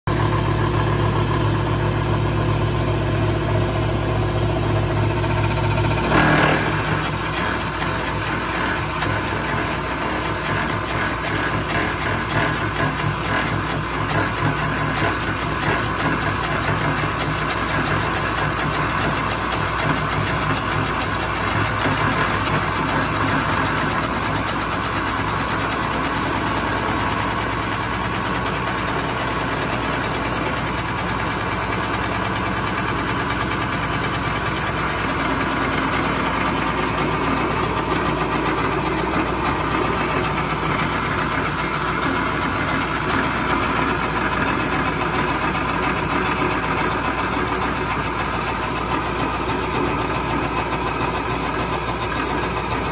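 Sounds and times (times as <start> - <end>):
cutter shaving wood: 0.1 - 52.9
lathe motor humming: 0.1 - 52.9.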